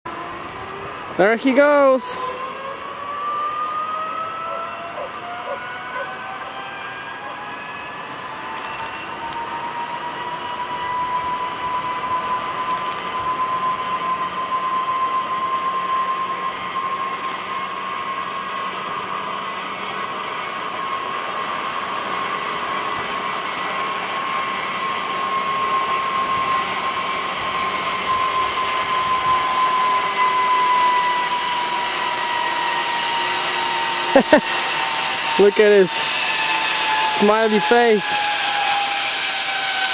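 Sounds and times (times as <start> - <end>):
zipline pulleys whining on cable: 0.1 - 39.9.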